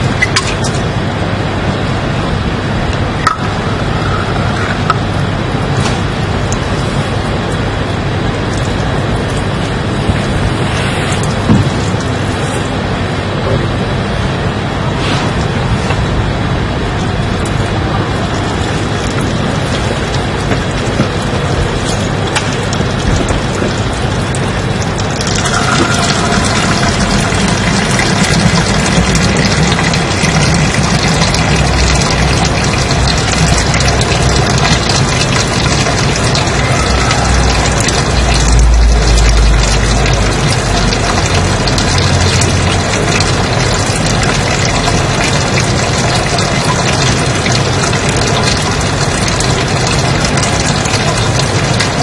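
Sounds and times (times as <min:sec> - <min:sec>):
deep rumble: 0:01.1 - 0:51.8.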